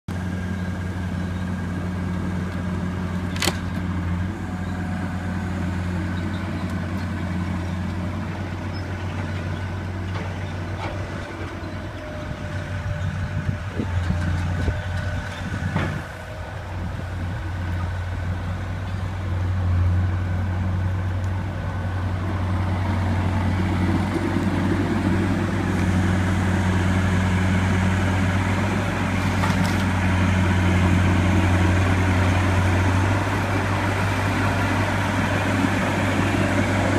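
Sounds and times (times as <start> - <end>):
skid steer engine running: 0.1 - 36.9.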